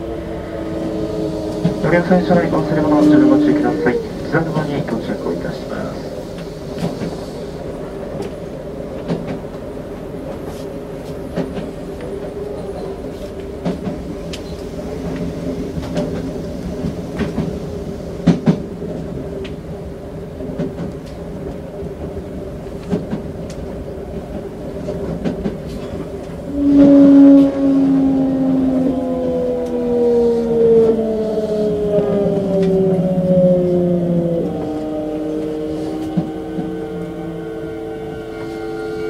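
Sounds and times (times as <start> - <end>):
train interior hum: 0.0 - 39.0.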